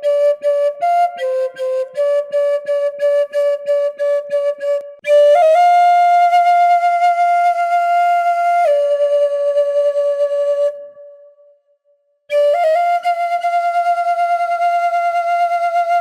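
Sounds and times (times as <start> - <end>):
wind instrument melody: 0.0 - 11.0, 12.3 - 16.0.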